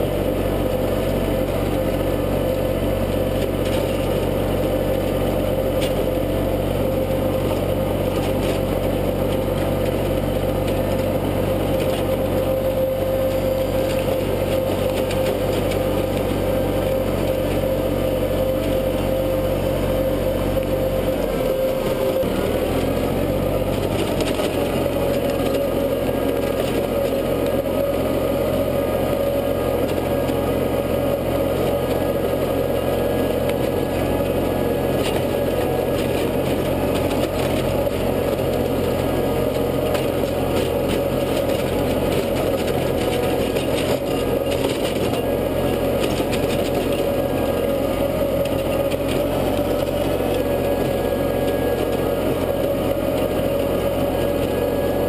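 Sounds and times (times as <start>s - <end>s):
rotary tiller churning soil: 0.0s - 55.0s
tractor engine running: 0.0s - 55.0s.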